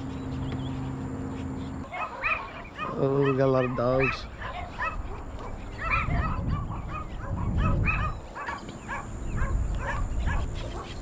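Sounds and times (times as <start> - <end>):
dogs barking: 0.2 - 11.0.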